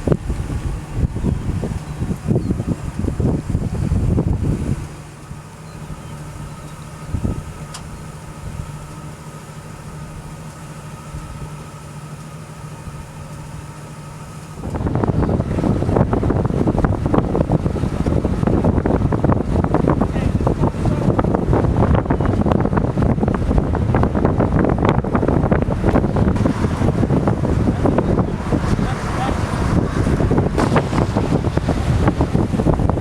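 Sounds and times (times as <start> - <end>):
gusty wind buffeting microphone: 0.0 - 11.7, 12.7 - 33.0
low vehicle hum: 0.0 - 33.0.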